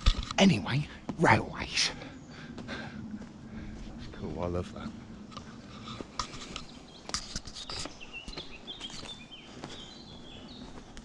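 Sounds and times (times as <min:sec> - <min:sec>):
footsteps on outdoor path: 0:00.0 - 0:11.0.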